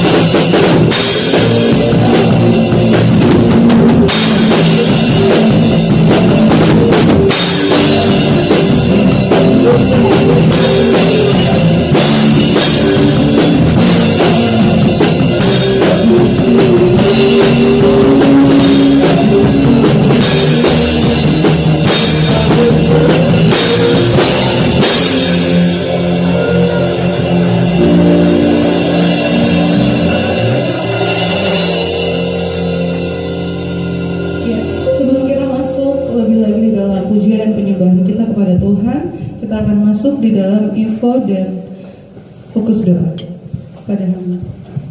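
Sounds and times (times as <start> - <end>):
drum kit with cymbals: 0.0 - 36.1
rock band playing: 0.0 - 37.3
sustained keyboard and guitar chords: 0.0 - 38.4.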